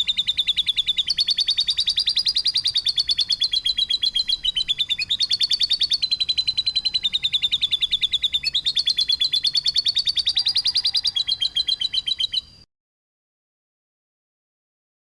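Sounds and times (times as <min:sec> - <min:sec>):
songbird harsh rapid trill: 0:00.0 - 0:12.6.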